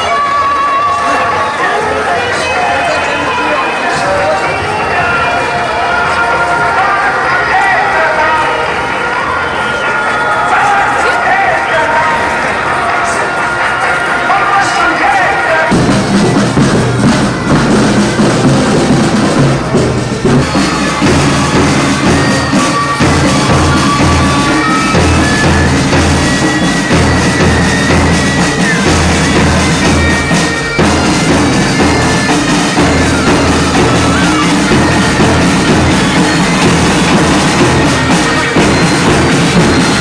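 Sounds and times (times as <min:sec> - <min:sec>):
held melody line: 0:00.0 - 0:40.0
driving drum beat: 0:01.0 - 0:40.0.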